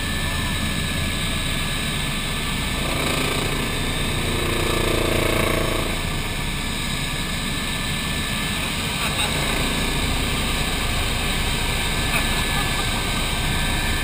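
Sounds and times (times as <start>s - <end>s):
deep engine tone: 0.0s - 14.0s
helicopter cabin drone: 0.0s - 14.0s.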